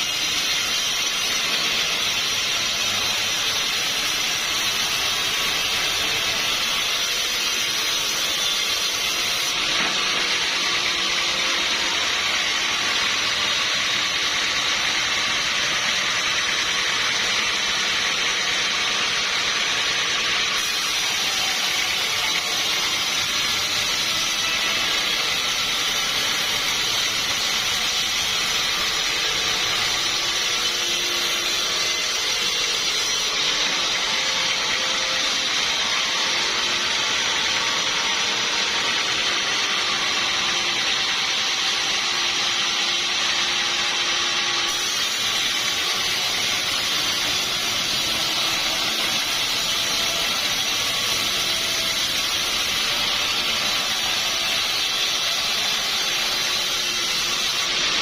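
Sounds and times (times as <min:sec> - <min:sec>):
sawmill saw whining: 0:00.0 - 0:58.0.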